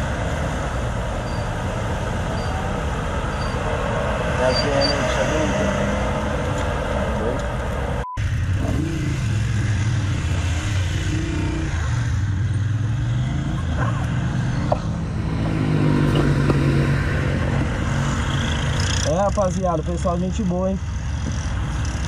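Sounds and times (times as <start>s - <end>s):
passing engine: 0.0s - 22.0s
street traffic engines humming: 0.0s - 22.0s.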